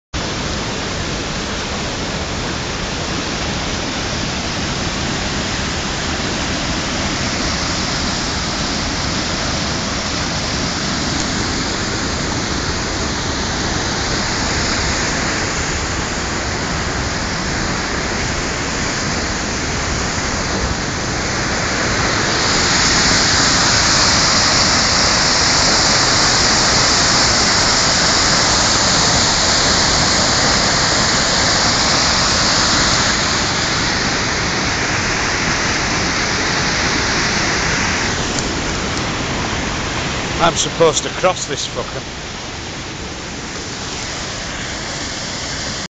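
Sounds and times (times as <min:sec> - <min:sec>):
stream water rushing: 0:00.2 - 0:45.9.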